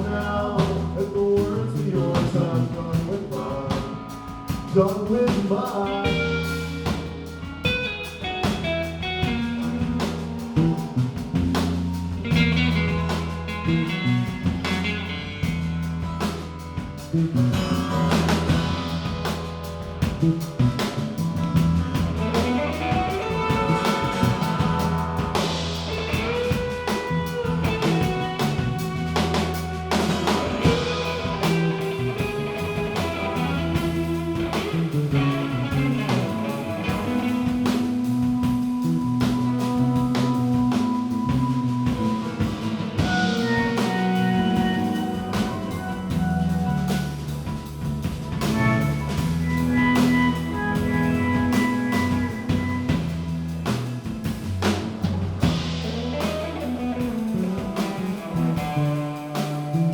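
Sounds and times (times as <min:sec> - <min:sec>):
drum kit playing: 0:00.0 - 0:59.9
electric guitar playing: 0:05.8 - 0:59.9
sustained low notes: 0:06.0 - 0:59.9.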